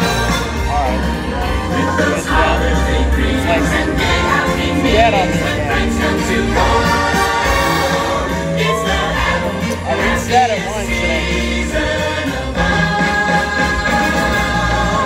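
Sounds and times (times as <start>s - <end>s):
choir singing: 0.0s - 15.0s
steady bass line: 0.0s - 15.0s.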